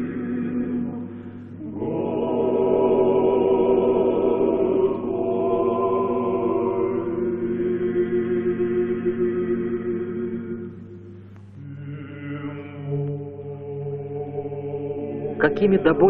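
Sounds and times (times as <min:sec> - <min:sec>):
male vocal quartet singing: 0:00.0 - 0:11.0, 0:11.6 - 0:16.0.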